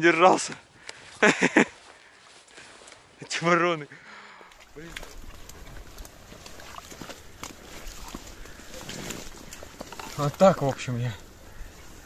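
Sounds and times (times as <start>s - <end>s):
rustling crackling reed stalks: 0.2s - 12.0s.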